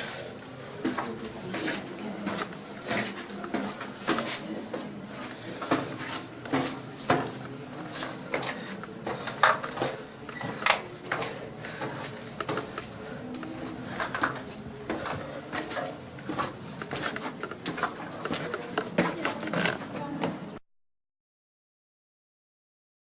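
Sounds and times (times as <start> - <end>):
footsteps on staircase: 0.7 - 20.6.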